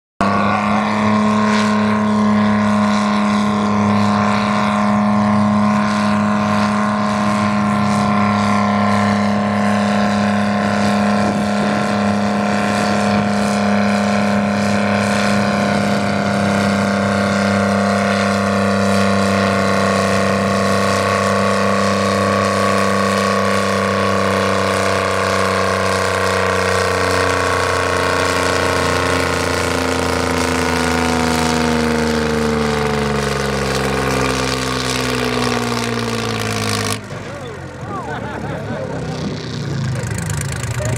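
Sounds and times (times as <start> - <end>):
diesel engine running hard: 0.2 - 40.9.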